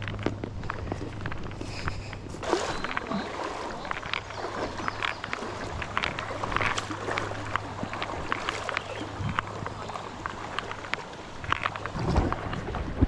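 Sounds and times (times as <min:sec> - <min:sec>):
creek water splashing: 0:00.0 - 0:13.0
wading splashes: 0:00.0 - 0:13.0.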